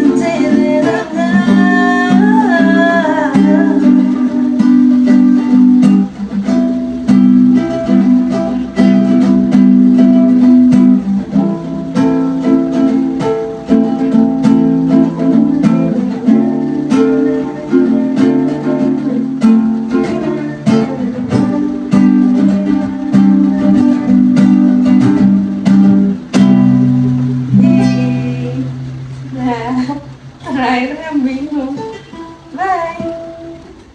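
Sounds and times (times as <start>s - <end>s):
acoustic string instrument strumming: 0.0s - 33.9s.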